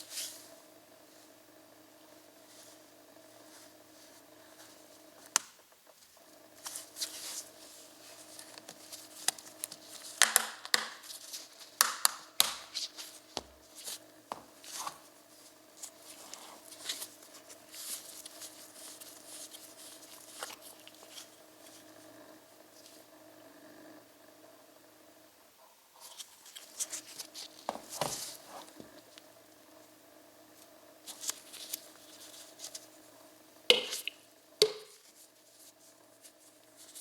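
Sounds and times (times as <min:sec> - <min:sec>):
faint electrical hum: 0:00.0 - 0:37.0.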